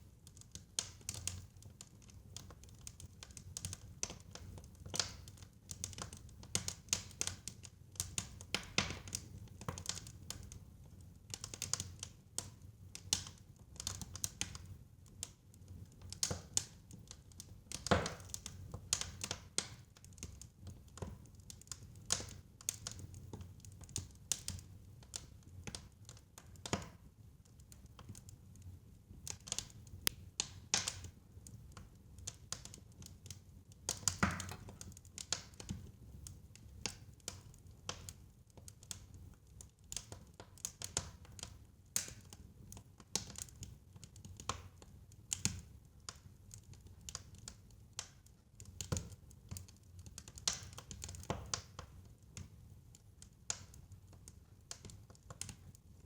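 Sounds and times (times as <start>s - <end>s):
fire crackling and popping: 0.1s - 56.0s.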